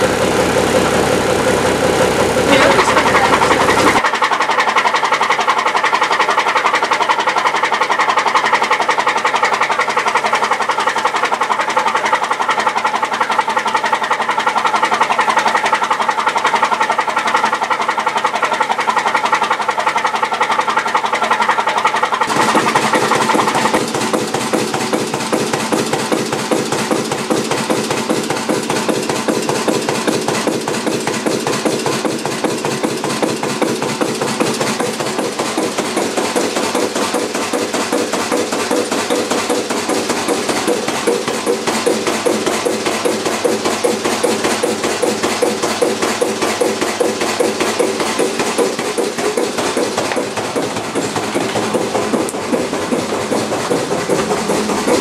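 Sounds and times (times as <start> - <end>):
marine diesel engine knocking: 0.0 - 55.0.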